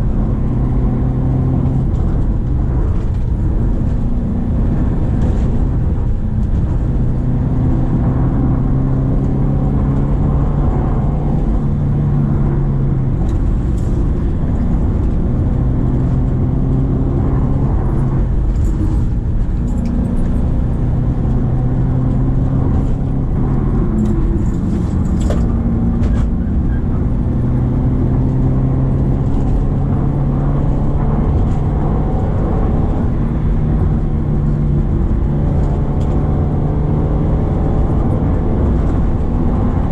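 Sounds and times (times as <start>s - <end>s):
low road rumble: 0.0s - 39.9s.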